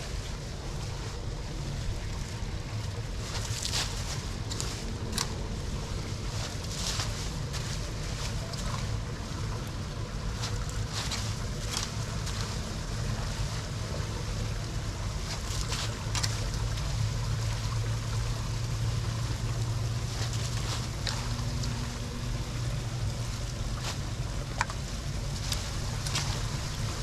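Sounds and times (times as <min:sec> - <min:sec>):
floodwater rushing: 0:00.0 - 0:27.0
water splashes: 0:00.0 - 0:27.0.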